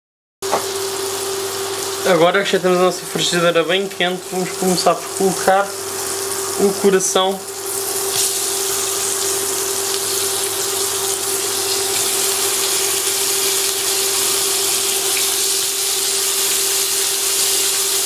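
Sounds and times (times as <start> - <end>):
meat sizzling in butter: 0.5 - 3.6, 4.2 - 18.0
steady hum: 0.5 - 18.0.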